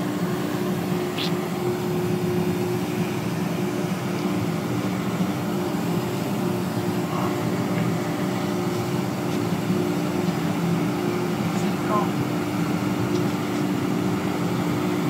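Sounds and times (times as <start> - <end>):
crane machinery humming: 0.0 - 15.0.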